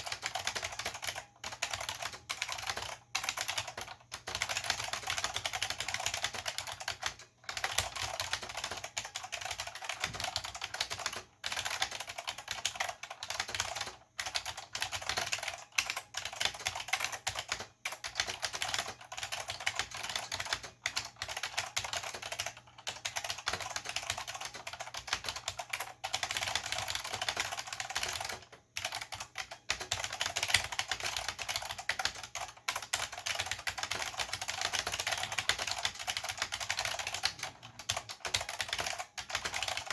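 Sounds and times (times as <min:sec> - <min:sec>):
clicky keyboard typing: 0:00.0 - 0:39.9.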